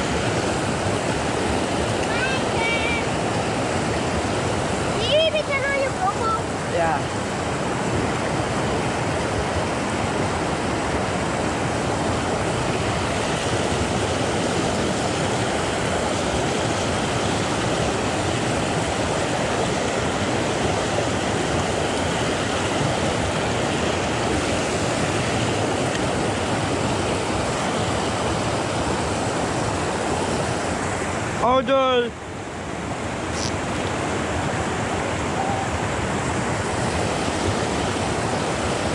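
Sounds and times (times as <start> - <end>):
stream rushing over boulders: 0.0 - 38.9.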